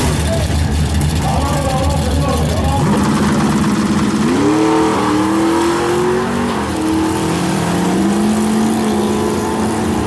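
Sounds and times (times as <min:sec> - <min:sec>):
race car engine revving: 0:00.0 - 0:10.0.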